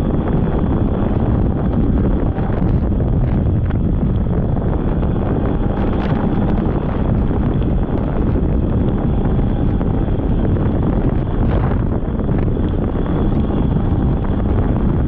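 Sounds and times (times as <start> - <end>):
snowmobile engine and track: 0.0 - 15.0
wind buffeting microphone: 0.0 - 15.0.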